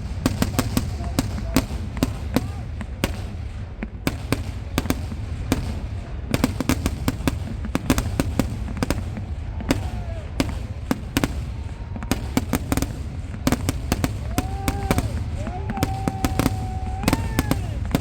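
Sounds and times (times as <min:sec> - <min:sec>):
firecracker bangs: 0:00.0 - 0:18.0
low rumble of explosions: 0:00.0 - 0:18.0.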